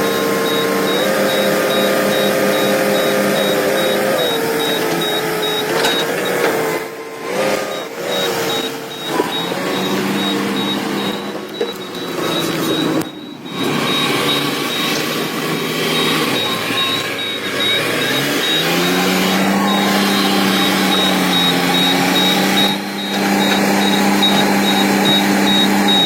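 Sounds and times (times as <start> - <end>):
rapid high-pitched beeping: 0.0 - 6.5, 7.5 - 26.0
heavy machinery engine and hydraulic whine: 0.0 - 26.0.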